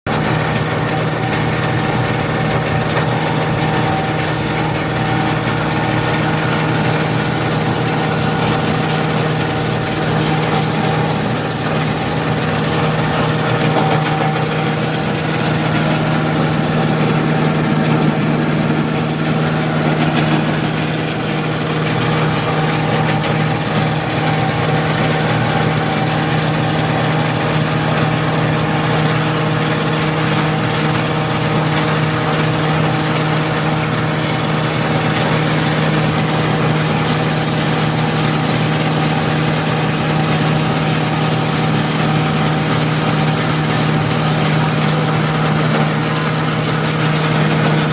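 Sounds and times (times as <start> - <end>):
grinding mill humming and hissing: 0.1 - 47.9.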